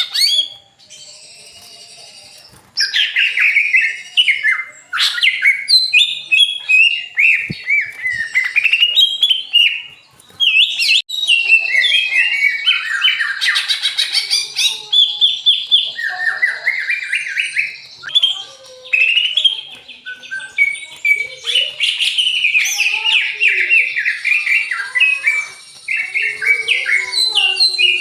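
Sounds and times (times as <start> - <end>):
songbirds singing: 0.0 - 28.0.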